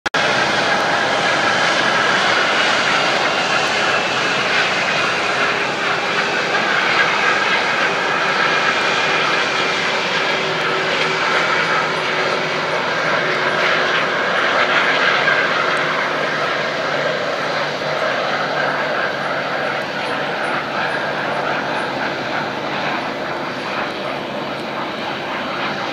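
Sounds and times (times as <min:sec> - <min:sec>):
jet engines running: 0:00.0 - 0:25.9.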